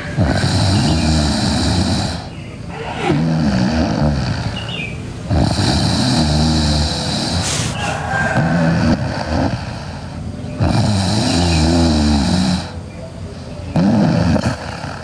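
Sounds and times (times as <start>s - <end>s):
girl snoring loudly: 0.0s - 12.8s, 13.8s - 15.0s.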